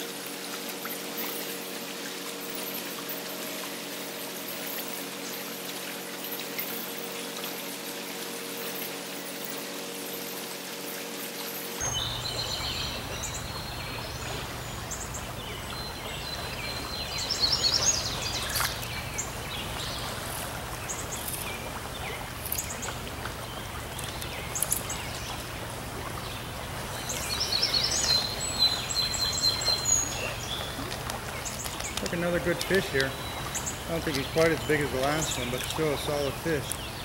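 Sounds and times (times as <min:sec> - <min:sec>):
stream water rushing: 0:00.0 - 0:37.0
birds chirping: 0:00.8 - 0:37.0.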